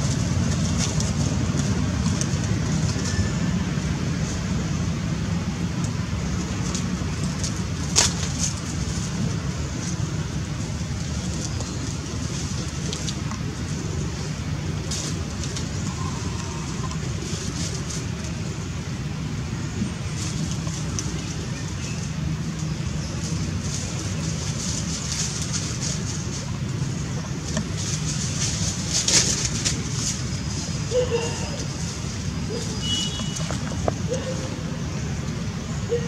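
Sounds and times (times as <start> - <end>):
dry leaves crackling: 0.0 - 36.0
low outdoor rumble: 0.0 - 36.0.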